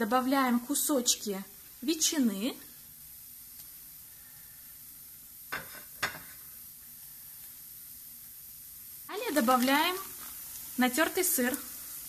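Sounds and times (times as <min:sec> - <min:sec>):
butter sizzling in a frying pan: 0:00.0 - 0:12.0.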